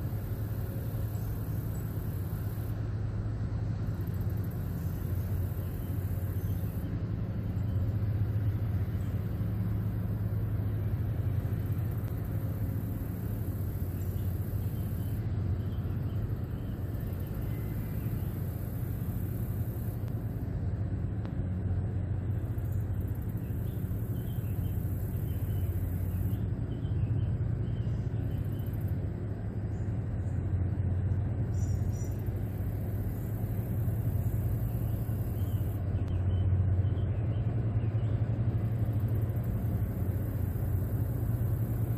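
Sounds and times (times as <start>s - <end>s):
boat diesel engines rumbling: 0.0s - 41.9s.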